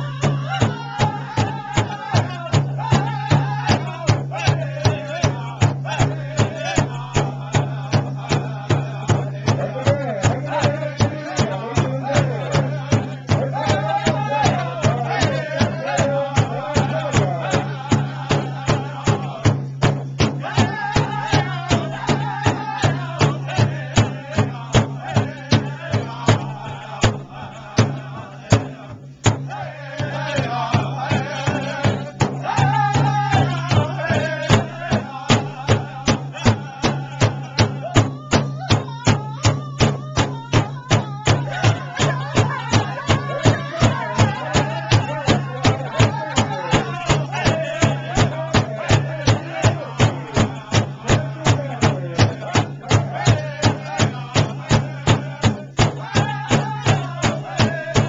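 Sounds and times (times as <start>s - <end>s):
group singing in unison: 0.0s - 58.0s
large drum steady beat: 0.0s - 58.0s.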